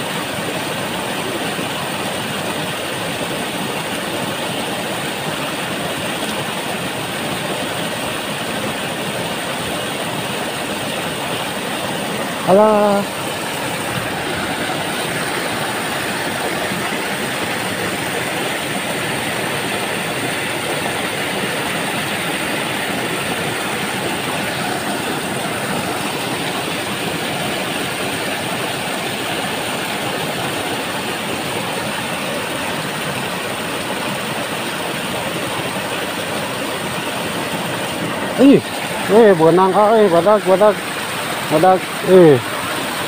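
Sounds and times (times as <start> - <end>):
fast-flowing water rushing: 0.0 - 43.0.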